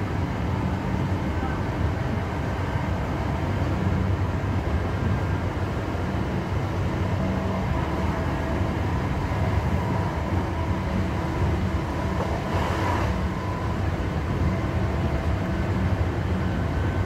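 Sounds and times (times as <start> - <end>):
faint steady whine: 0.0 - 17.0
train wheels rumbling on rail: 0.0 - 17.0.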